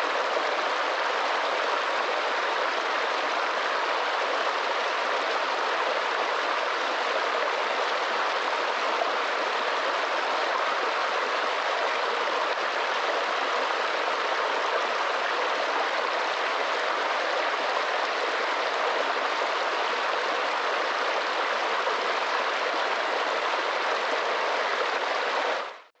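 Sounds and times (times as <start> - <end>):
stream rushing over rocks: 0.0 - 25.9.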